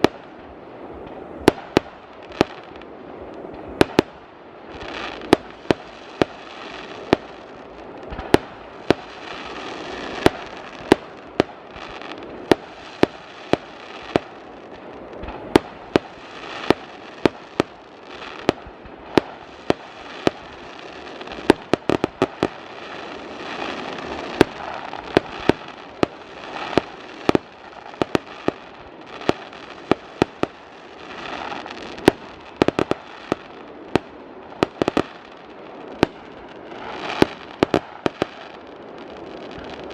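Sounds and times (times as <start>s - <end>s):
firework bangs: 0.0s - 39.9s
fireworks crackling and hissing: 0.0s - 39.9s.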